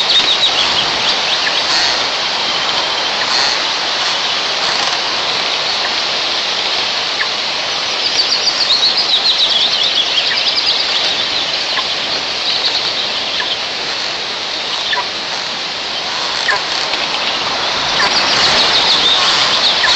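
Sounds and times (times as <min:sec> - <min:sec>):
bird chirping: 0:00.0 - 0:13.7, 0:14.5 - 0:15.1, 0:16.0 - 0:19.9
wind rushing over microphone: 0:00.0 - 0:19.9.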